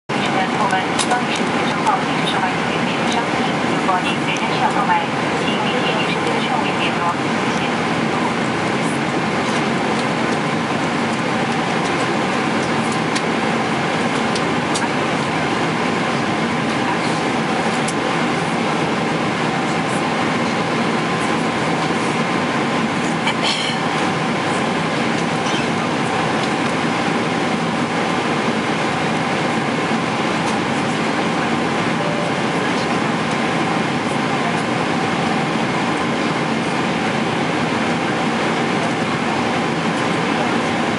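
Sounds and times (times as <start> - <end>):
airflow and engine noise: 0.1 - 40.9
faint steady hums: 0.1 - 40.9.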